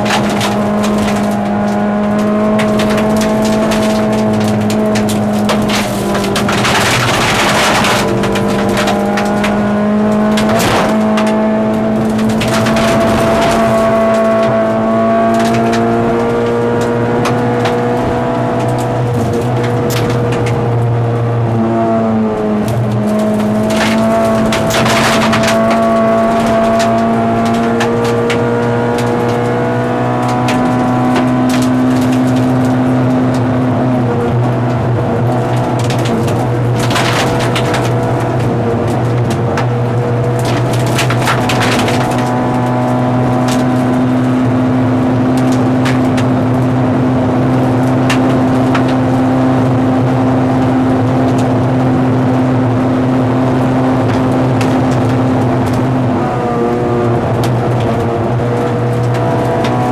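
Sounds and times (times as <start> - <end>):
gravel spray and tyre noise: 0.0 - 59.9
rally car engine running hard: 0.0 - 59.9.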